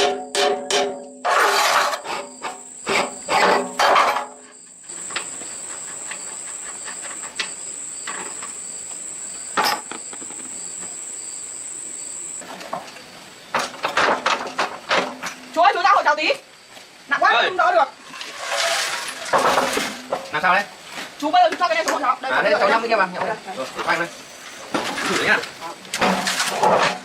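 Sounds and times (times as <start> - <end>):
insects trilling: 1.2 - 14.4, 15.2 - 27.0.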